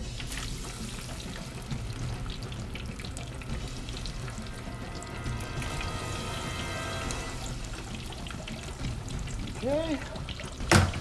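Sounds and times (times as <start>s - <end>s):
potatoes deep-frying in oil: 0.0s - 11.0s.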